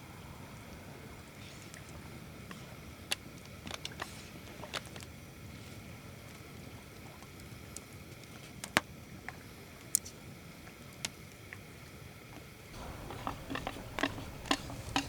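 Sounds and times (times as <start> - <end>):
faint low background rumble: 0.0 - 9.9, 11.7 - 15.0.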